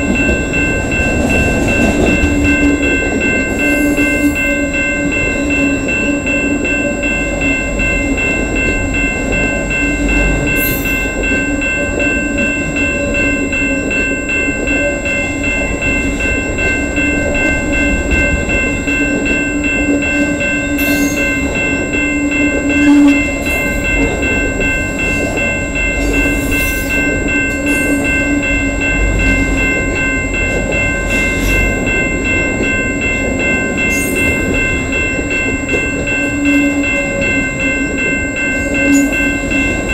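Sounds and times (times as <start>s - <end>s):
steady train rumble: 0.0s - 39.9s
sustained ringing tones: 0.0s - 39.9s.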